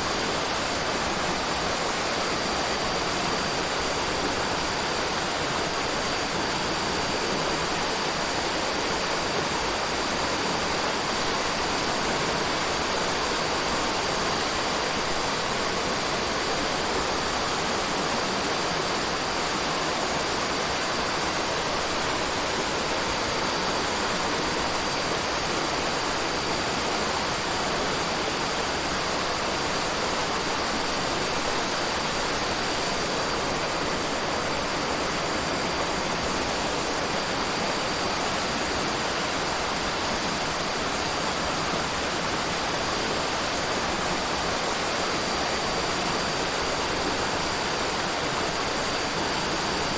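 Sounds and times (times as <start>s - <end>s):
running water rushing: 0.0s - 49.9s.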